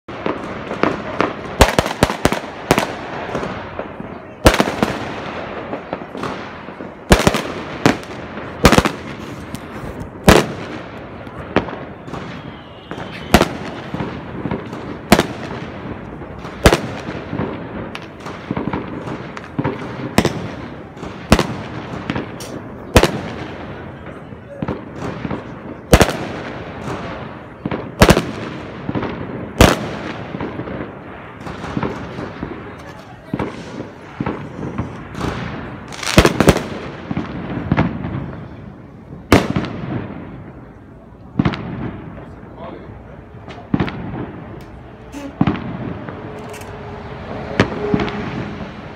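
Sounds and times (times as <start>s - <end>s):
loud firework bangs: 0.1s - 48.9s
smaller firework bangs and cracks: 0.1s - 48.9s.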